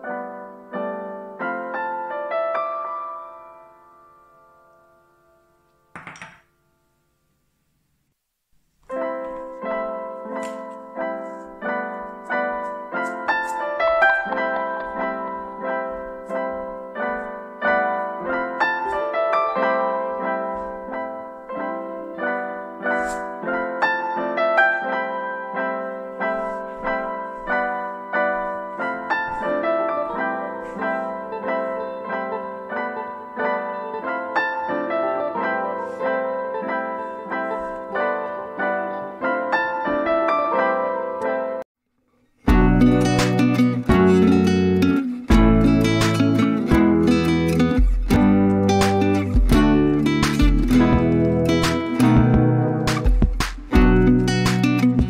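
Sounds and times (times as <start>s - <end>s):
piano music: 0.0s - 6.3s, 8.8s - 41.7s, 42.4s - 55.0s.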